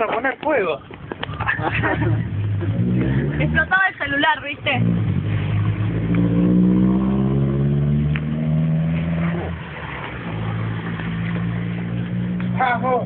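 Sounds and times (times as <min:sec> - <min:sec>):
engine running: 0:00.9 - 0:13.0.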